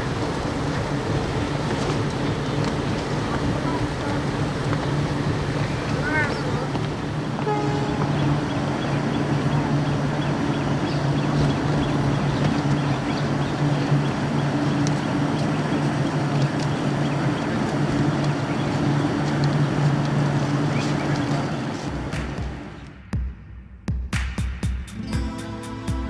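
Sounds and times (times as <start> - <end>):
train diesel engine idling: 0.0 - 22.9
crowd noise: 0.0 - 23.0.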